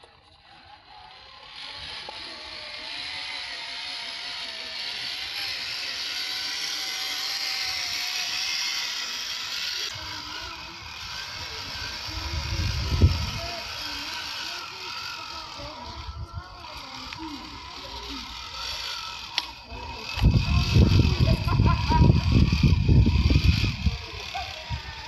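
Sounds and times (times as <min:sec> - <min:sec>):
electric motor whirring: 0:00.0 - 0:25.0.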